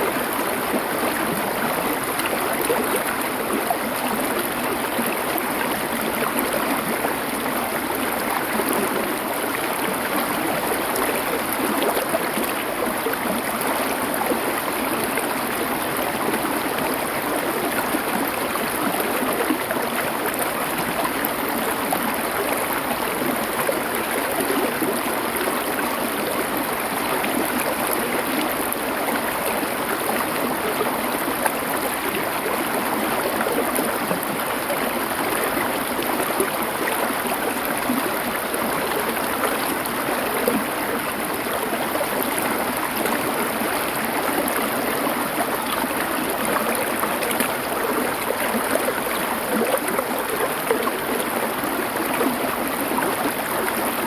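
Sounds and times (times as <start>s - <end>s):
river flowing over stones: 0.0s - 54.0s.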